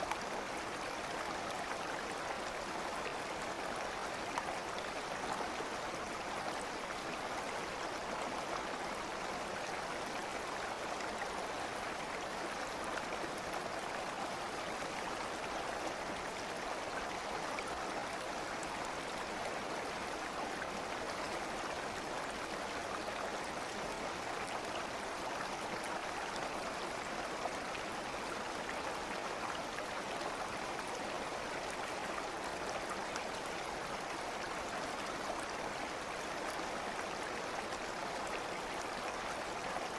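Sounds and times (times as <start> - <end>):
running water stream: 0.0 - 39.9.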